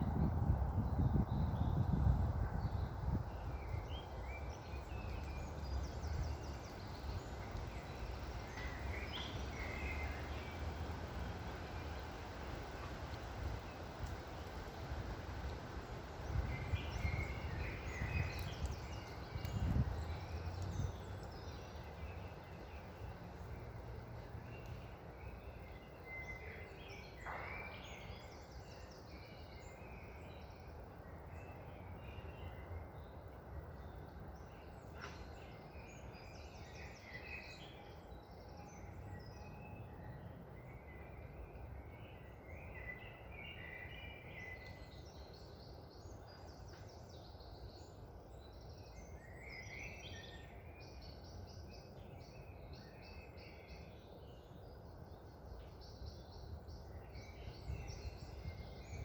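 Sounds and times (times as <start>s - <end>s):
wind in trees: 0.0s - 59.0s.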